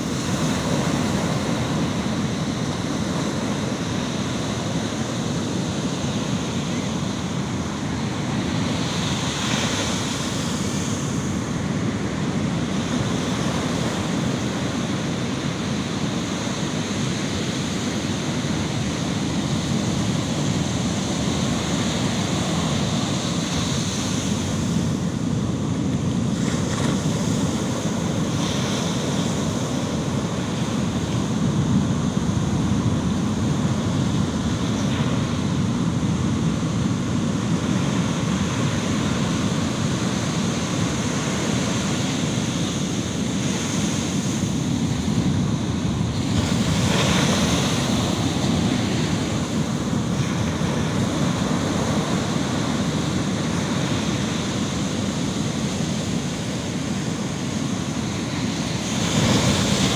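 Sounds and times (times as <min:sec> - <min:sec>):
surf breaking on sand beach: 0:00.0 - 0:59.9.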